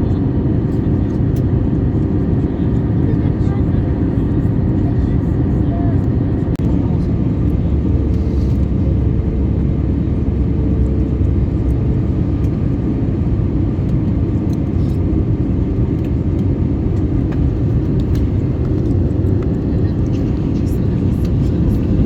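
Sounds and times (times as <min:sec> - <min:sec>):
engine and airflow rumble: 0:00.0 - 0:22.0.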